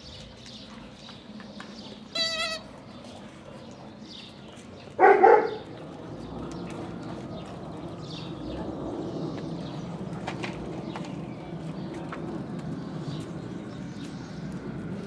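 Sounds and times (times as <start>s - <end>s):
paws scrabbling on concrete: 0.0s - 8.3s, 8.9s - 15.0s.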